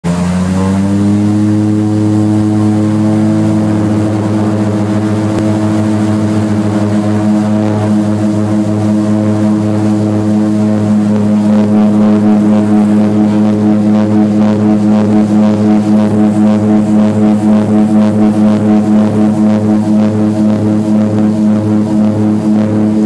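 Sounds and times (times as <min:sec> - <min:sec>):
propeller engines humming: 0:00.0 - 0:23.0.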